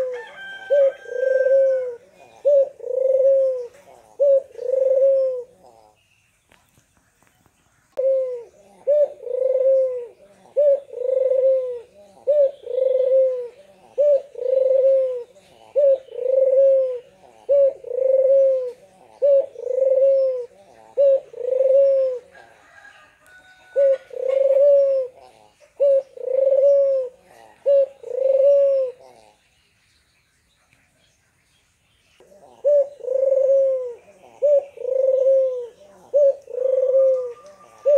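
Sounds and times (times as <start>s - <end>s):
dove bow-cooing: 0.0s - 6.0s, 8.0s - 29.5s, 32.2s - 37.9s.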